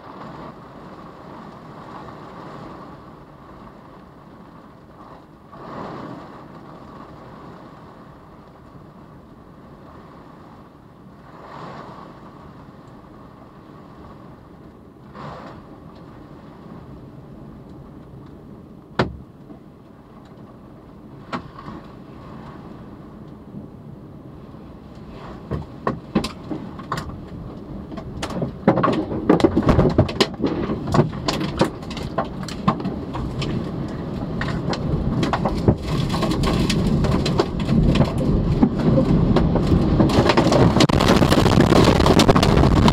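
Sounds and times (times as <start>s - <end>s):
heavy rain and wind on car: 0.0s - 42.9s.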